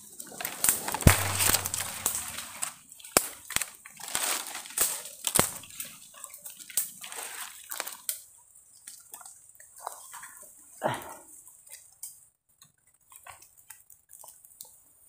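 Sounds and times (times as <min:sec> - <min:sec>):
leaves and branches rustling: 0:00.0 - 0:12.2.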